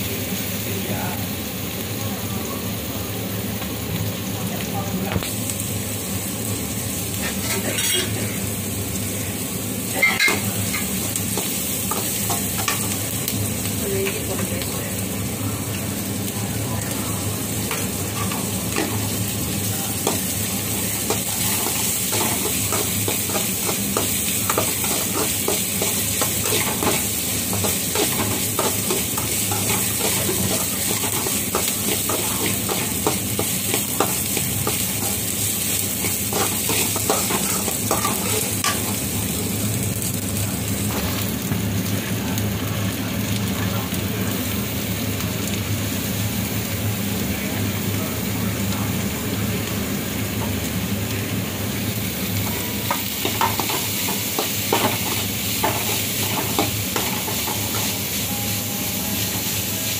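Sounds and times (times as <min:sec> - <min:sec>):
onions frying and sizzling: 0:00.0 - 0:59.9.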